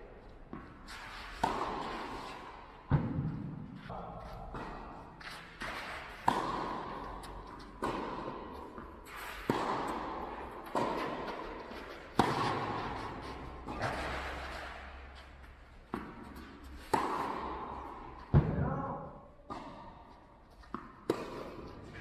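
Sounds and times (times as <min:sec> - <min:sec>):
rackets striking tennis ball: 0:00.3 - 0:22.0.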